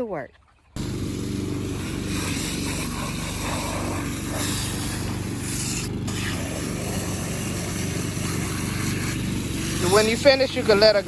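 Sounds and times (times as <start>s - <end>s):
lawn mower engine running: 0.8s - 11.0s.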